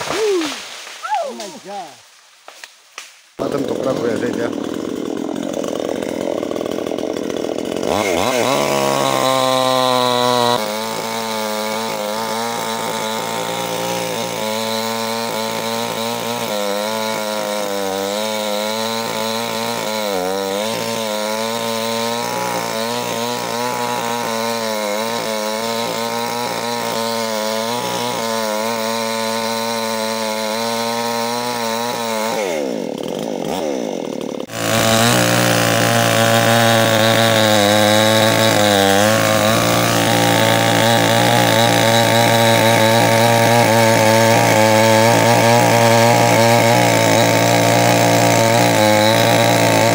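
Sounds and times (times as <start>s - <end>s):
chainsaw cutting log: 0.0s - 49.9s.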